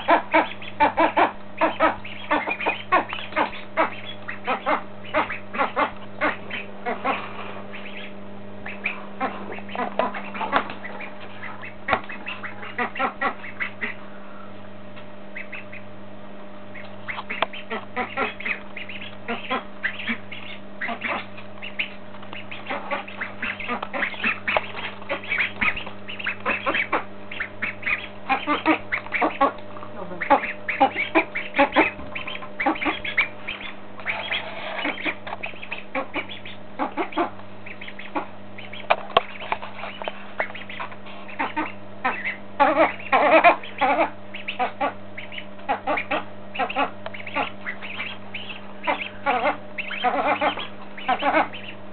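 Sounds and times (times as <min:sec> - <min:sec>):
ducks quacking: 0:00.0 - 0:14.6, 0:15.3 - 0:15.9, 0:16.7 - 0:51.9
steady low hum: 0:00.0 - 0:51.9.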